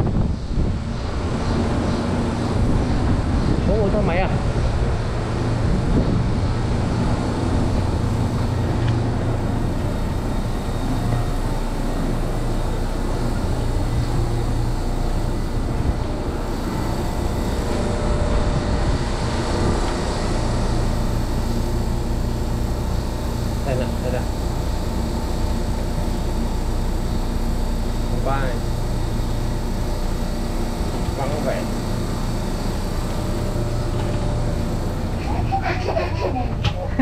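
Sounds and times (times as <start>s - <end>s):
electric train rumbling: 0.0s - 37.0s
faint motor tones: 0.8s - 37.0s.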